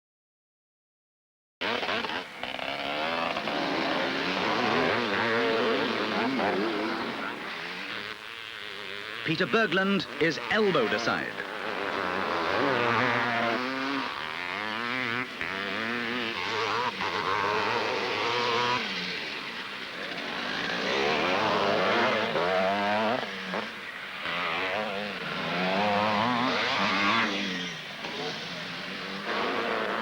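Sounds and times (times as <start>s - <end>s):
motocross bikes revving: 1.6s - 30.0s.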